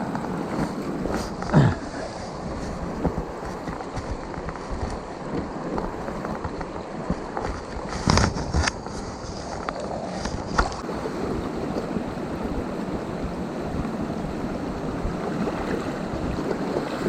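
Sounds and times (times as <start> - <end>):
stream rushing over rocks: 0.0 - 8.2, 8.9 - 17.0.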